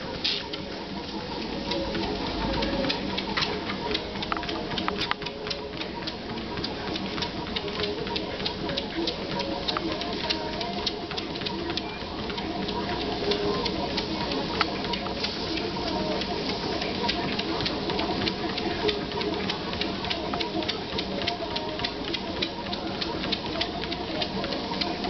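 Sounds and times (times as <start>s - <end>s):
treadmill belt ticking: 0.0s - 25.0s
treadmill motor hum: 0.0s - 25.0s.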